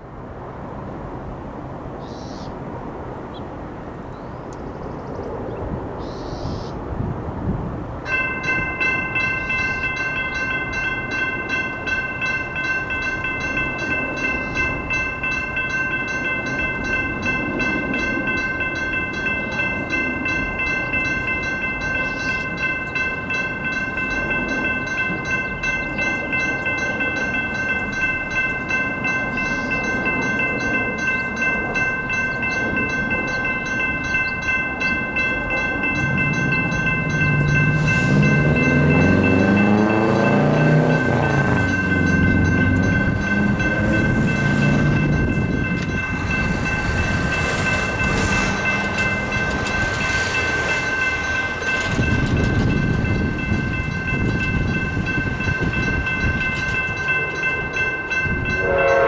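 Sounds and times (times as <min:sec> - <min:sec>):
railroad crossing warning bells: 0:00.0 - 0:59.0
traffic noise: 0:00.0 - 0:59.0.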